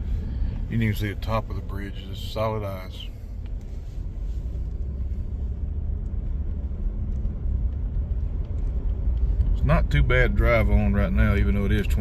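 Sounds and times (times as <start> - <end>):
vehicle driving slowly: 0.0 - 12.0.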